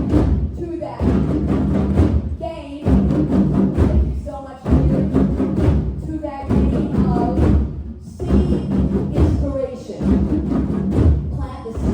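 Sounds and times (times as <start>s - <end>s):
hand drums playing: 0.0s - 11.9s.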